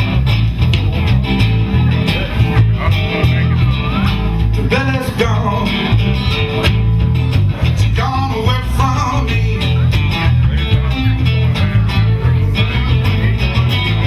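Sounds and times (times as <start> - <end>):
blues guitar lead: 0.0 - 14.0
steady bass line: 0.0 - 14.0.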